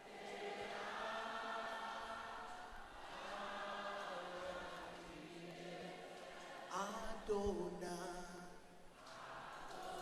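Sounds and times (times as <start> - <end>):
congregation singing worship song: 0.0 - 10.0.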